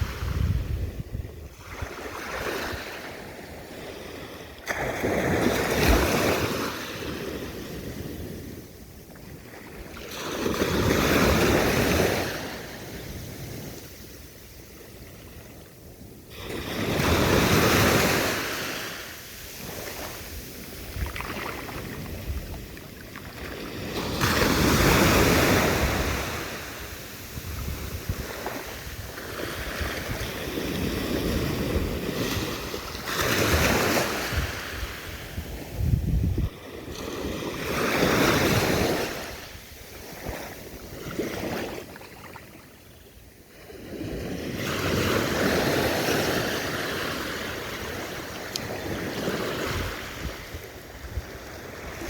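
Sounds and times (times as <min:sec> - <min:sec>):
sea waves breaking: 0:00.0 - 0:14.2, 0:16.3 - 0:42.8, 0:43.6 - 0:52.0.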